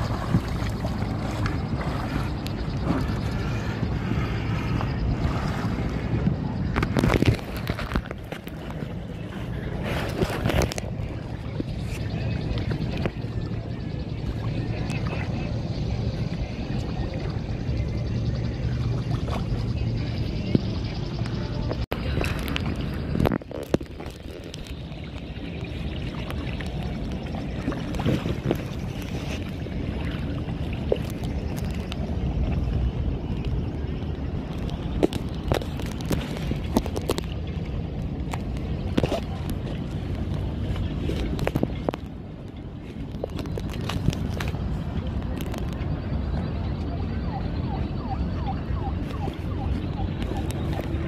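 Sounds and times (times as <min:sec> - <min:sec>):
water splashing: 0:00.0 - 0:51.0
wind noise on microphone: 0:00.0 - 0:51.0.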